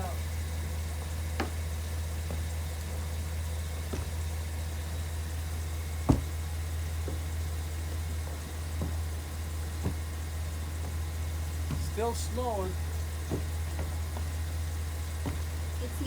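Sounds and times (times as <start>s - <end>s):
car engine idling: 0.0s - 16.0s
scattered knocks: 1.4s - 3.0s, 3.8s - 16.0s.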